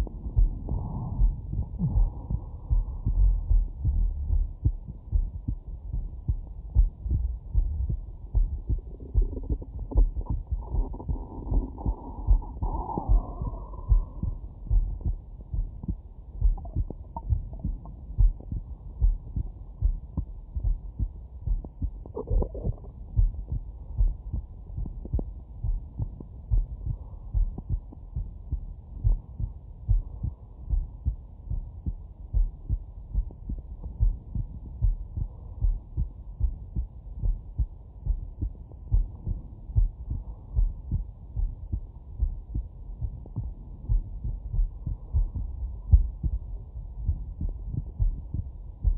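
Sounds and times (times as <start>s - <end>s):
heartbeat through stethoscope: 0.0s - 48.9s.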